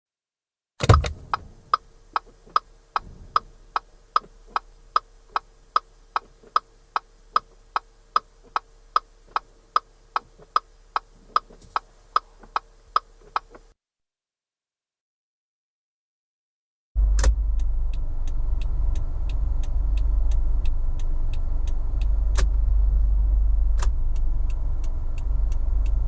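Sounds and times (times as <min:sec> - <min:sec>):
car turn signal ticking: 0:00.8 - 0:13.7, 0:17.0 - 0:23.0, 0:23.6 - 0:26.0.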